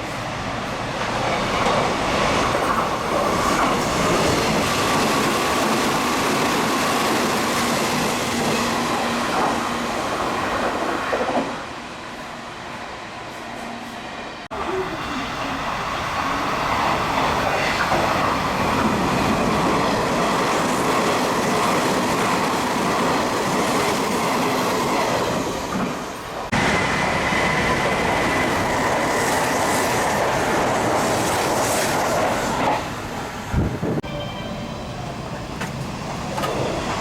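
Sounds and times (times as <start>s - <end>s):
train wheels rumbling and clacking: 0.0s - 11.6s, 15.2s - 34.0s, 35.0s - 37.0s
high train whine: 0.0s - 37.0s.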